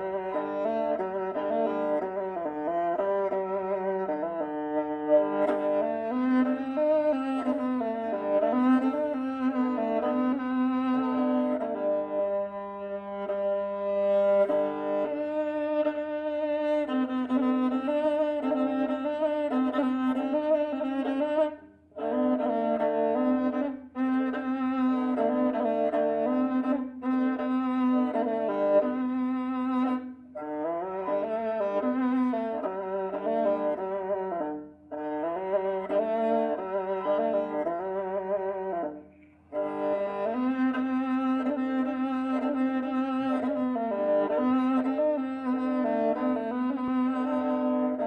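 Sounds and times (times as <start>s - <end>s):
bowed string instrument solo: 0.0s - 48.0s.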